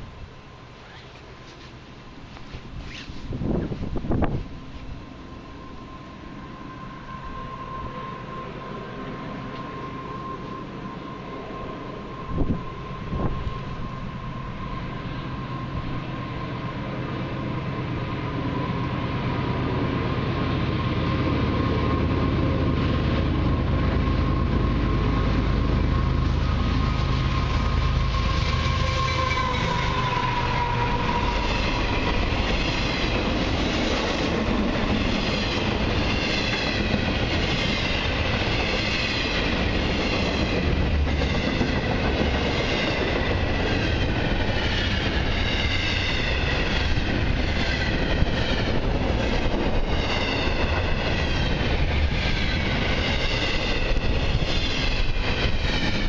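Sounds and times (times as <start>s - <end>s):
locomotive passing: 0.0s - 56.0s.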